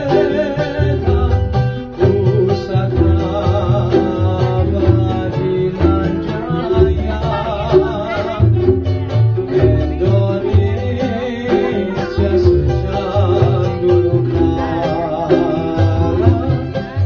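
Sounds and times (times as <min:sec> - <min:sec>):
man singing with vibrato: 0:00.0 - 0:17.0
plucked strings: 0:00.0 - 0:17.0
pulsing bass line: 0:00.0 - 0:17.0.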